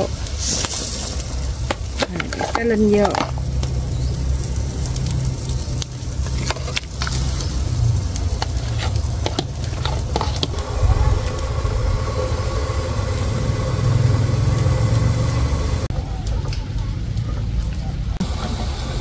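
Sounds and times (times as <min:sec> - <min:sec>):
low rumble of boiling: 0:00.0 - 0:19.0.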